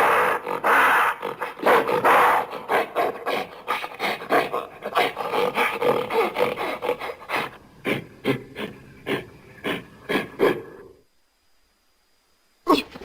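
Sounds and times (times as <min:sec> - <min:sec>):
gorilla breathy grunts: 0:00.0 - 0:11.0.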